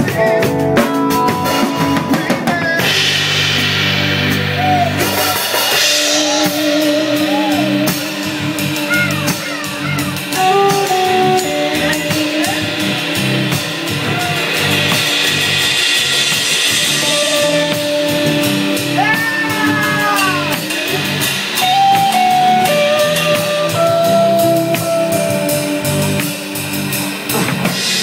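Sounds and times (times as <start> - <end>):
lead guitar long notes: 0.0 - 28.0
live band playing: 0.0 - 28.0.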